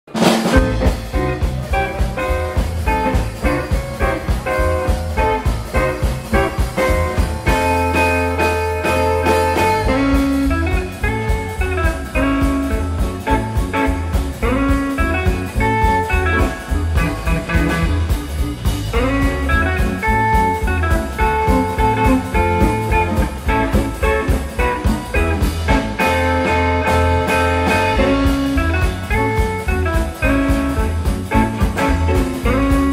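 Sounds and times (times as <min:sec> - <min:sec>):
bass: 0:00.0 - 0:32.9
drum kit: 0:00.0 - 0:32.9
electric guitar chords: 0:00.1 - 0:32.9.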